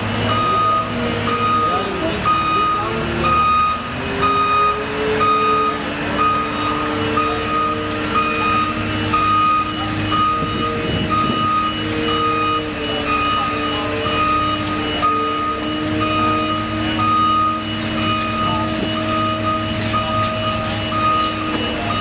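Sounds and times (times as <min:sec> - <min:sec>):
diesel engine running: 0:00.0 - 0:22.0
reversing alarm beeping: 0:00.0 - 0:22.0.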